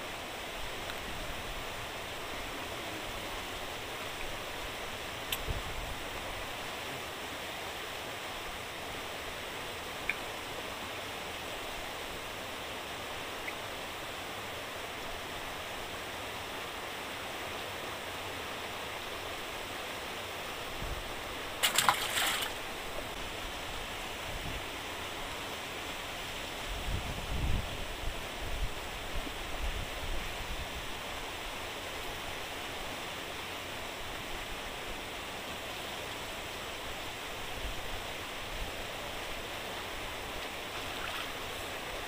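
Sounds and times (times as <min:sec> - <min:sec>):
water rushing through sluice gate: 0:00.0 - 0:26.7, 0:27.8 - 0:42.0.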